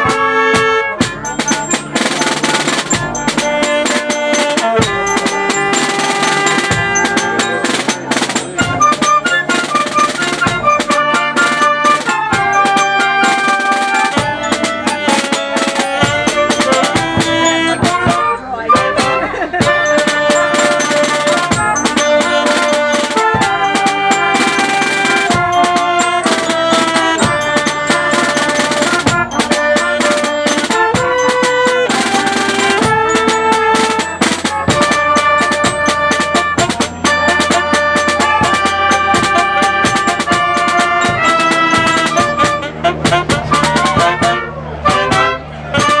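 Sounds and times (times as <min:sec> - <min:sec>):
jazz band playing: 0:00.0 - 0:46.0.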